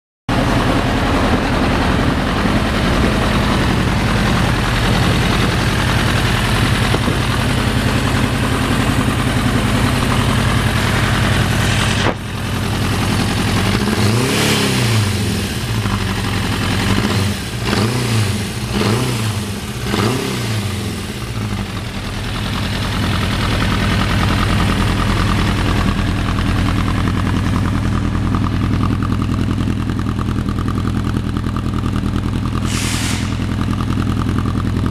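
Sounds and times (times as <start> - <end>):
motorcycle engine idling and revving: 0.3 - 34.9.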